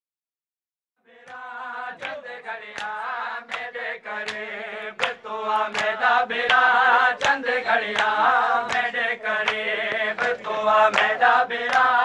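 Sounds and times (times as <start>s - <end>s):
men chanting a lament: 1.0s - 12.0s
hands slapping on chests: 1.3s - 12.0s.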